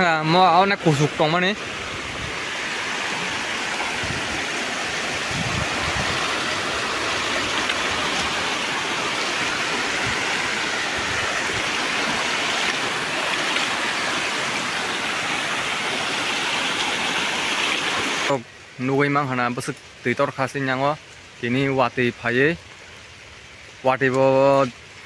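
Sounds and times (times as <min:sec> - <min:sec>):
floodwater rushing: 0:00.0 - 0:24.1.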